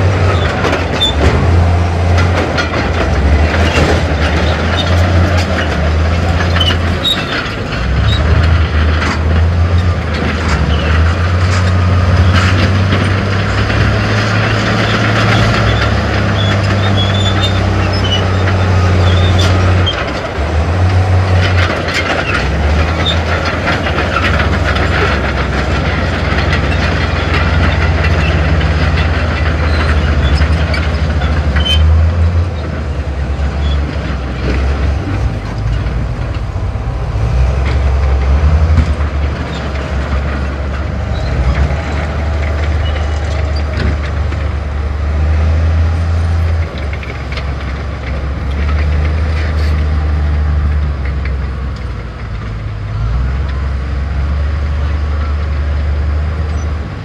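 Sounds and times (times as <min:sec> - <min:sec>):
heavy diesel engine droning: 0:00.0 - 0:57.0
machinery clanking and rattling: 0:00.0 - 0:57.0.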